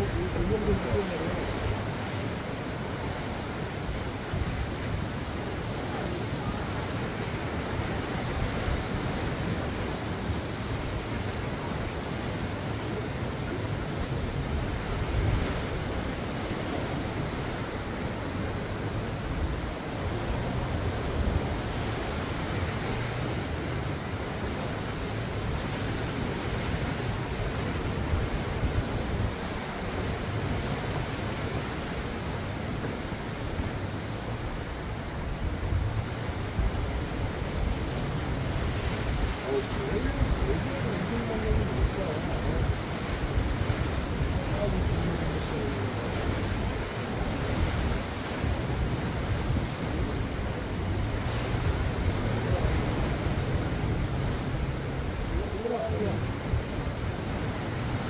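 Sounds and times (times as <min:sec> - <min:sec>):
surf breaking against rocks: 0:00.0 - 0:58.0
wind rumbling on microphone: 0:00.0 - 0:58.0.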